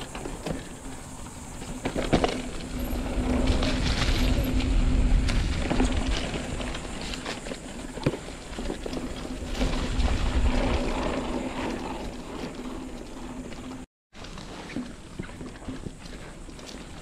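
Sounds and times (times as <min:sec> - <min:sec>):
wind rumbling on microphone: 0:00.0 - 0:13.9
bike clicks and rattles: 0:00.0 - 0:14.5
bike tyre noise on sandy trail: 0:00.0 - 0:17.0.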